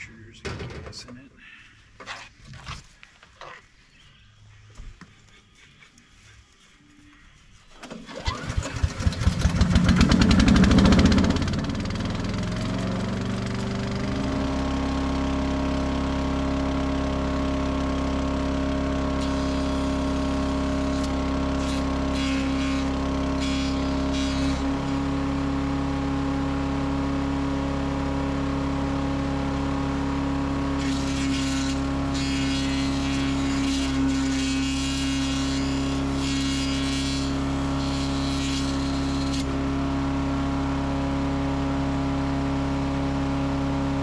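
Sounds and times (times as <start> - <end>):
small gasoline engine running: 7.8 - 44.0.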